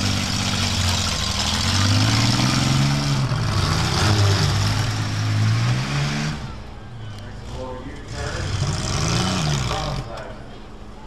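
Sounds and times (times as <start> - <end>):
minivan engines revving: 0.0 - 11.0.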